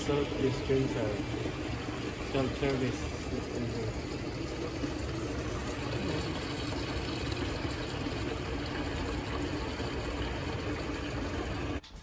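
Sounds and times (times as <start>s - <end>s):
water rushing into plastic jug: 0.0s - 11.8s.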